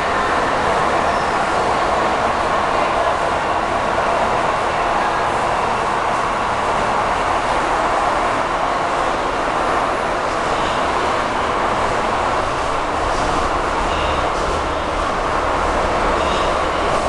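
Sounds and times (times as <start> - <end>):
metro train wheels rushing: 0.0 - 17.0.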